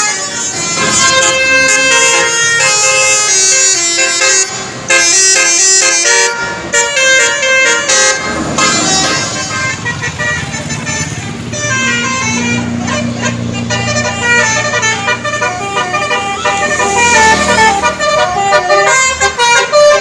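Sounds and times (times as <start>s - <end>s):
multi-tone air horn tune: 0.0s - 20.0s.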